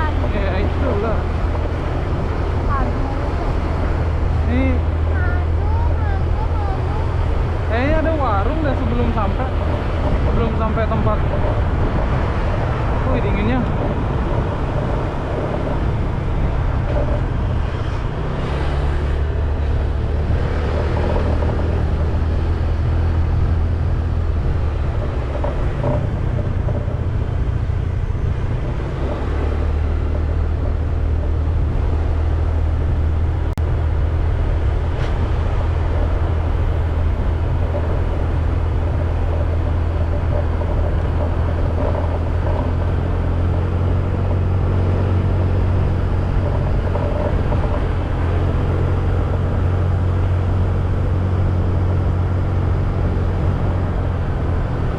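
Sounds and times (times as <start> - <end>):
motorcycle engine running: 0.0 - 54.9
road noise: 0.0 - 54.9
wind rumble on microphone: 0.0 - 54.9.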